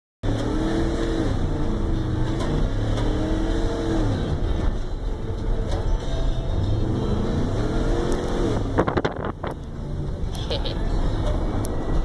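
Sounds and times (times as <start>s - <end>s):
truck engine revving: 0.2s - 12.0s.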